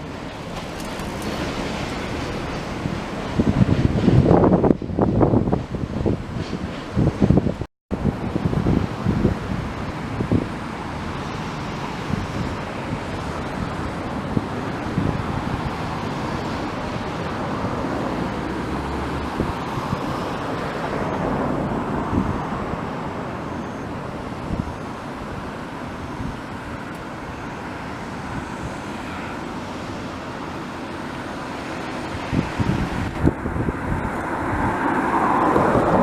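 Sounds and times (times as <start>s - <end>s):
river rushing: 0.0s - 4.5s, 8.0s - 36.0s
wind buffeting microphone: 0.0s - 36.0s.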